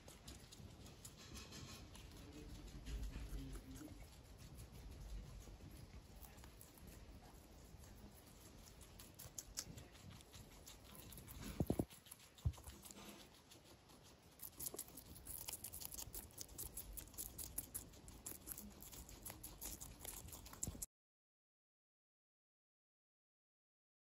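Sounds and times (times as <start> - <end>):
guinea pigs chewing: 0.0 - 20.9.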